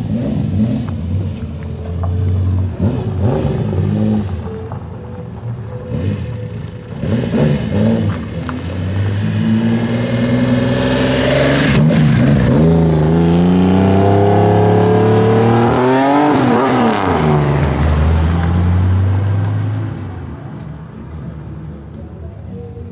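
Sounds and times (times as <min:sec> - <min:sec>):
car engine passing: 0:00.0 - 0:20.6
car accelerating: 0:00.0 - 0:20.7.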